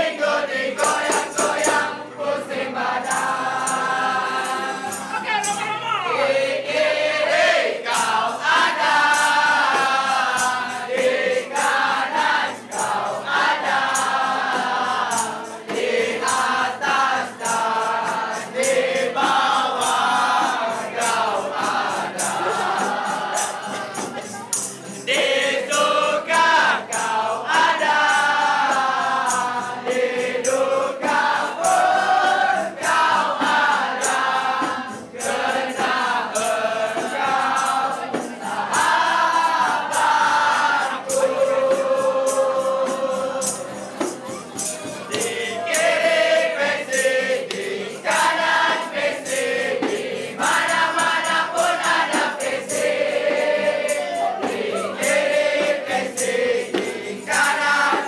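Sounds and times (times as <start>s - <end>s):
crowd singing in unison: 0.0s - 58.0s
rhythmic hand clapping: 0.0s - 58.0s.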